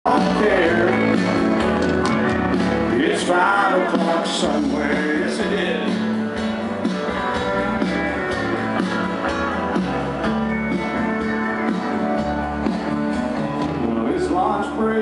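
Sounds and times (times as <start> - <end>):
country band playing: 0.0 - 15.0.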